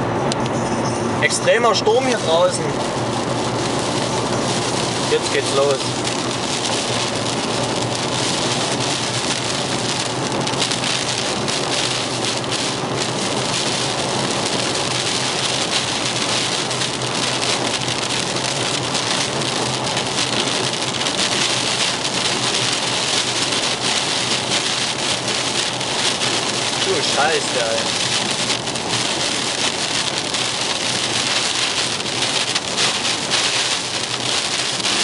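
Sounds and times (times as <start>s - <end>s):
heavy rain on car roof: 1.2s - 35.0s.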